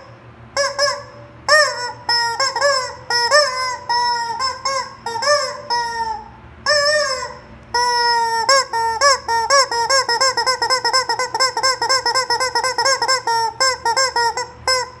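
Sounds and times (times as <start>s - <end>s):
squeaky rubber chicken toy: 0.0s - 15.0s.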